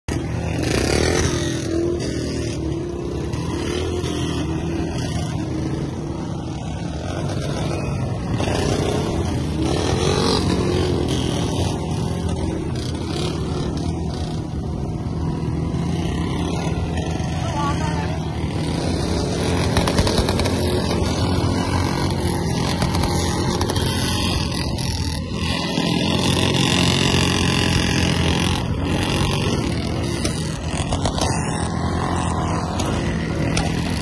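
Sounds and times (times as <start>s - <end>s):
motorcycle engines running: 0.0s - 34.0s.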